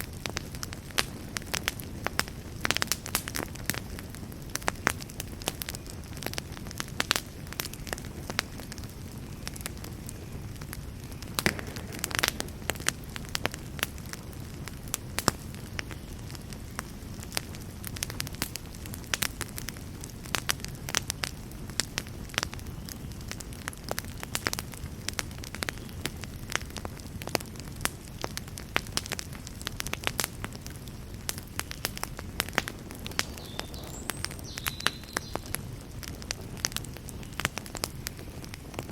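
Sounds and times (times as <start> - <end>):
burning wood crackling and popping: 0.0 - 38.9
fire rumbling: 0.0 - 38.9.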